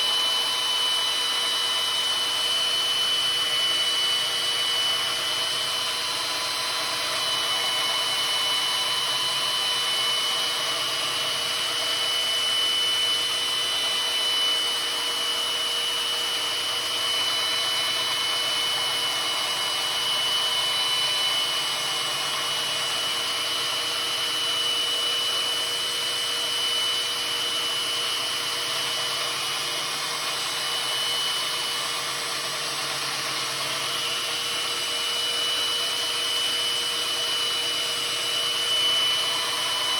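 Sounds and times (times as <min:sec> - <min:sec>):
power sander grinding metal: 0:00.0 - 0:39.9.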